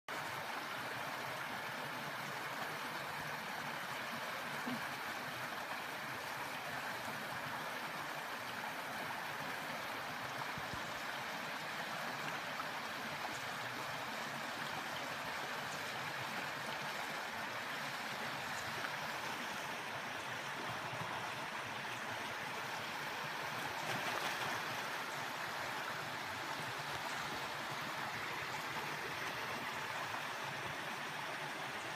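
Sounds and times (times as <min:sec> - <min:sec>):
river rushing over rocks: 0:00.2 - 0:31.9.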